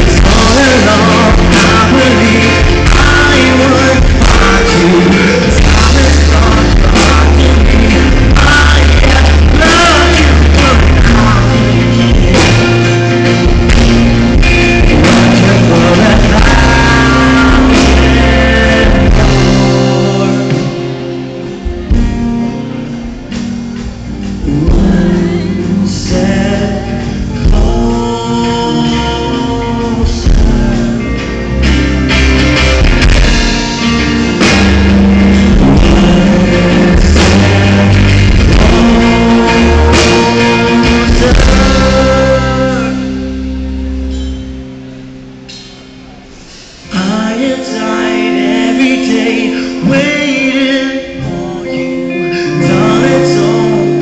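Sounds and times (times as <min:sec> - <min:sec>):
man singing: 0:00.0 - 0:22.1, 0:23.8 - 0:31.9, 0:32.7 - 0:43.8, 0:46.8 - 0:54.0
acoustic guitar: 0:00.0 - 0:54.0
drum kit: 0:00.0 - 0:54.0
electric guitar: 0:00.0 - 0:54.0.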